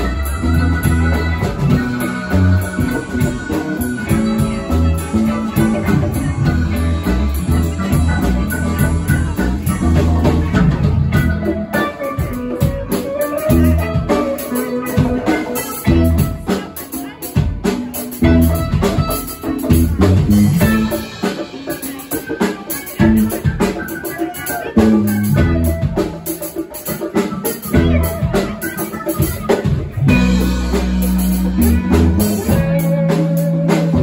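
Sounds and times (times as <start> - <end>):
electric bass: 0.0 - 16.7, 17.4 - 34.0
drum kit: 0.0 - 34.0
electric guitar: 0.0 - 34.0
mandolin: 0.0 - 34.0.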